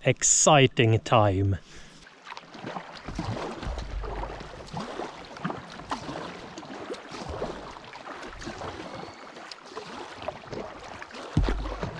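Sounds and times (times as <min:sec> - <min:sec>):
water lapping around a kayak: 0:01.6 - 0:11.9
small splashes and drips: 0:01.8 - 0:11.9.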